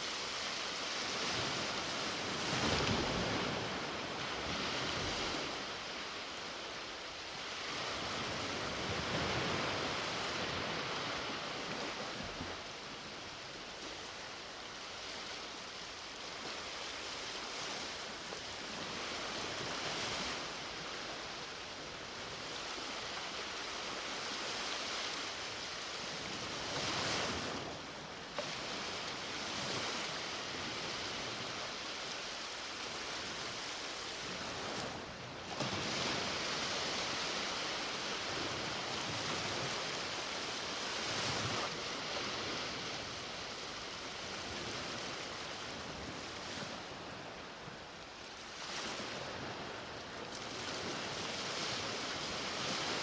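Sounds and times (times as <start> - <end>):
ocean waves breaking on a beach: 0.0 - 53.0.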